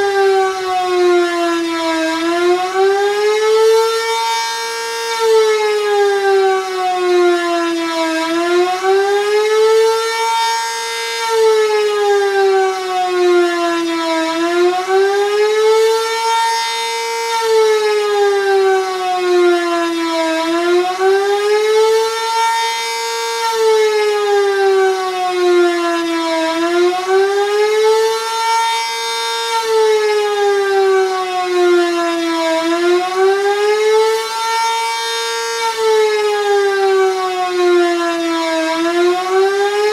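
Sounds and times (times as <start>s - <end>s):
warning siren fast wail: 0.0s - 39.9s.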